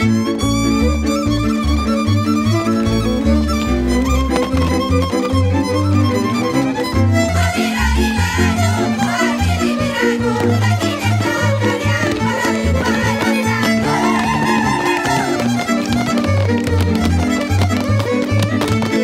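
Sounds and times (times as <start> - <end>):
fiddle melody: 0.0 - 19.0
folk dance string band: 0.0 - 19.0.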